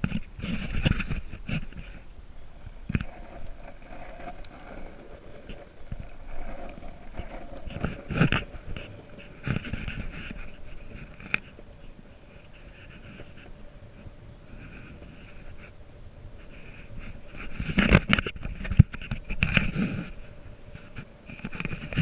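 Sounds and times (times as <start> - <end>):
longboard rolling on asphalt: 0.0 - 22.0.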